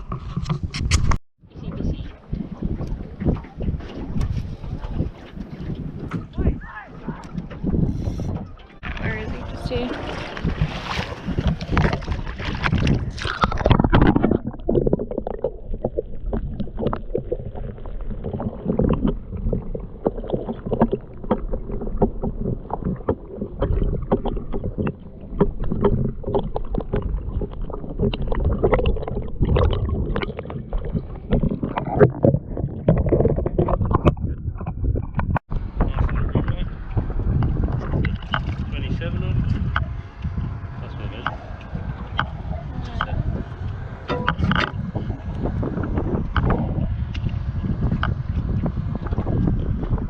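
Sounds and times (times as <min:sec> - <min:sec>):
water slapping hull: 0:00.0 - 0:50.0
wind buffeting microphone: 0:00.0 - 0:50.0.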